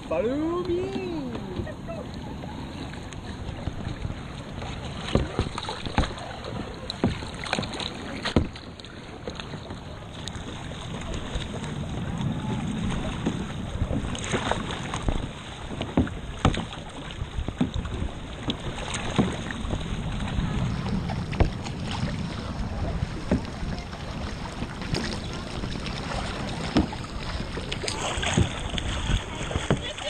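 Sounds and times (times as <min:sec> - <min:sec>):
paddle strokes splashing: 0:00.0 - 0:30.0
wind and water rushing: 0:00.0 - 0:30.0.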